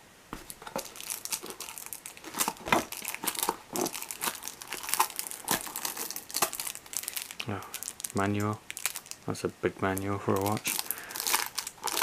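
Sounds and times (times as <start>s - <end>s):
plastic wrapping crinkling: 0.4s - 12.0s.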